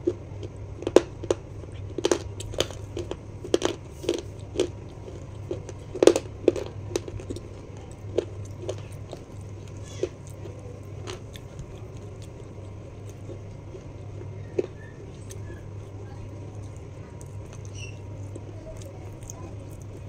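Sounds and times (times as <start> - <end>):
chewing crunchy snack: 0.0 - 20.0
steady low hum: 0.0 - 20.0.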